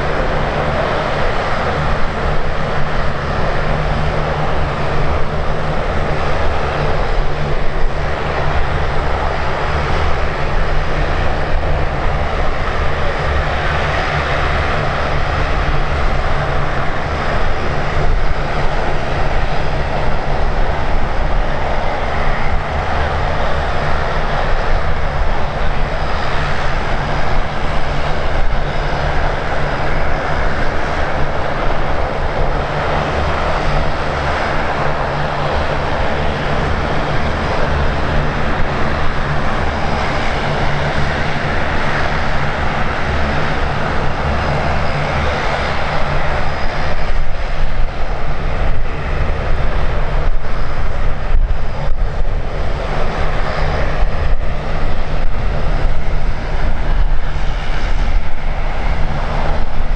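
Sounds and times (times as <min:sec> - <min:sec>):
airliner engines roaring: 0:00.0 - 0:59.9
wind rumbling on microphone: 0:00.0 - 0:59.9.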